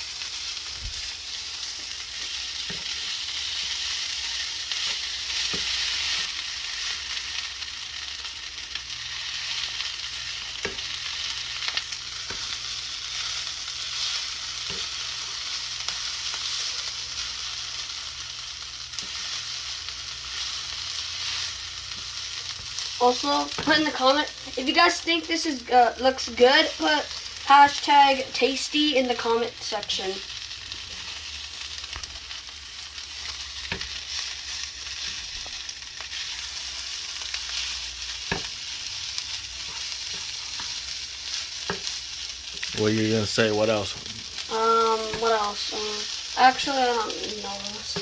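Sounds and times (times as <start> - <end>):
food sizzling in a frying pan: 0.0 - 48.0.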